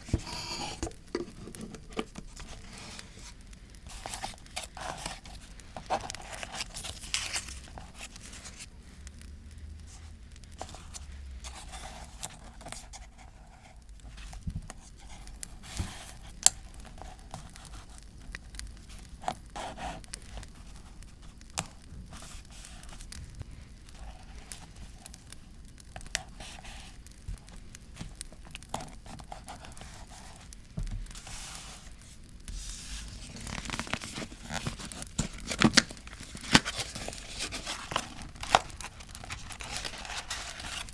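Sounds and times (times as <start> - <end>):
paper crinkling: 0.0 - 8.8, 9.8 - 40.9.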